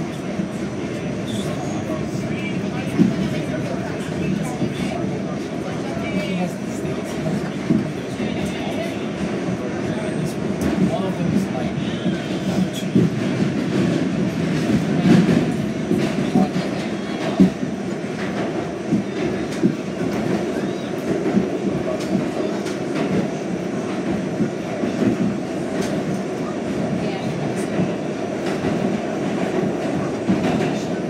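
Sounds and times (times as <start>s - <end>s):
subway car rumbling in tunnel: 0.0s - 31.0s.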